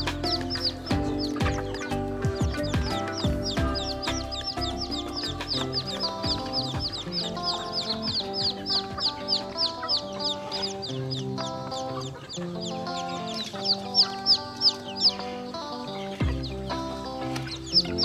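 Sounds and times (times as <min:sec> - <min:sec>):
background music with held notes: 0:00.0 - 0:18.0
chicks peeping: 0:00.0 - 0:18.0.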